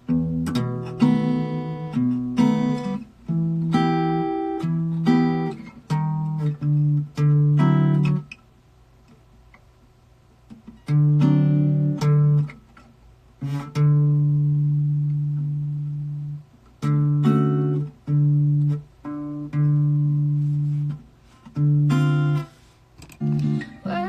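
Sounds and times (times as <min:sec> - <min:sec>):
guitar chords plucked and muted: 0:00.0 - 0:08.5, 0:10.4 - 0:24.0.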